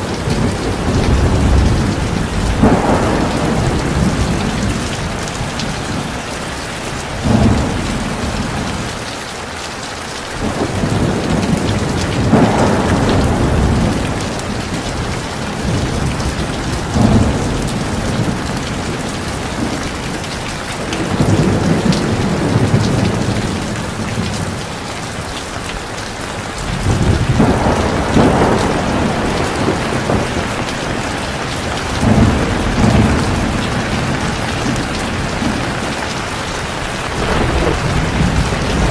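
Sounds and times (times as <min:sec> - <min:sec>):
thunder rolling: 0:00.0 - 0:06.2, 0:07.0 - 0:08.9, 0:10.4 - 0:25.3, 0:26.6 - 0:38.9
heavy rain falling: 0:00.0 - 0:38.9.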